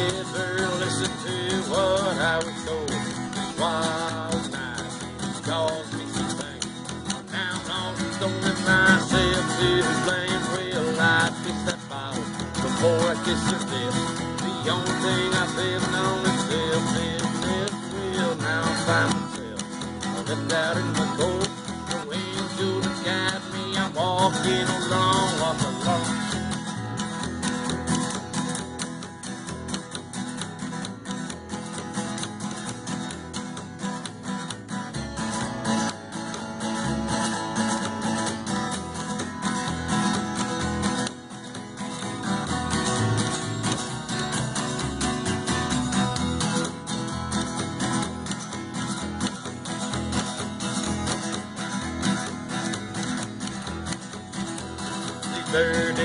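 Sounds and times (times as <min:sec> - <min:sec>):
acoustic guitar strumming: 0:00.0 - 0:56.0
double bass plucking: 0:00.0 - 0:56.0.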